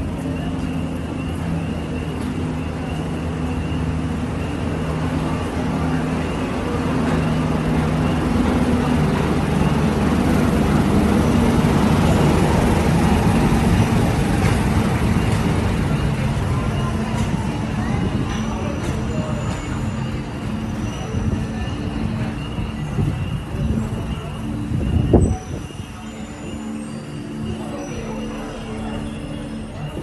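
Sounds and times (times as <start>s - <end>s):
steam train arriving: 0.0s - 30.0s.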